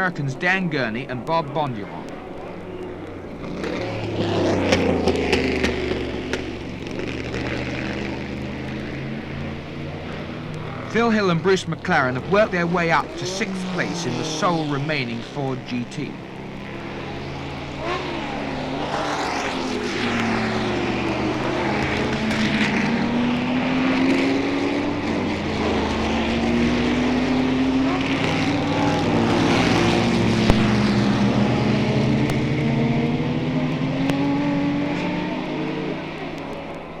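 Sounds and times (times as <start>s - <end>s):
distant racing car engines: 0.0s - 37.0s.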